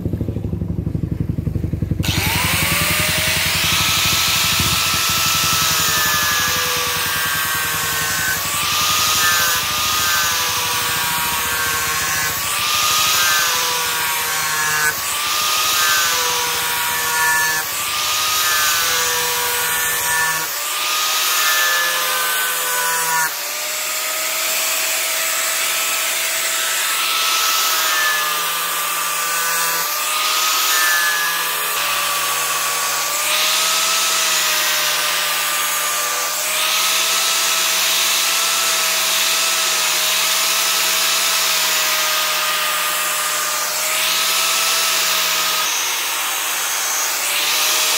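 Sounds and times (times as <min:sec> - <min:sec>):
power tool motor whine: 0:00.1 - 0:47.9.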